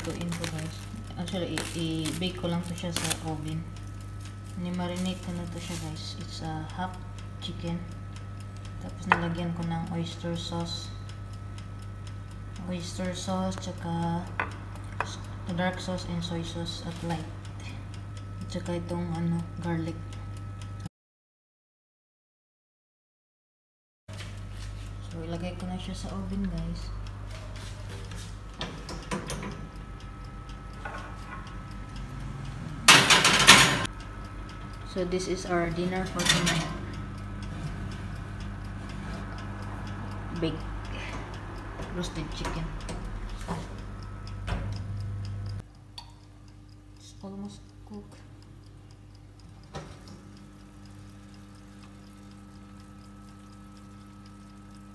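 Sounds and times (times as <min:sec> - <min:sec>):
faint regular ticking: 0:00.0 - 0:20.9, 0:24.1 - 0:54.9
oven humming: 0:00.0 - 0:20.9, 0:24.1 - 0:54.9.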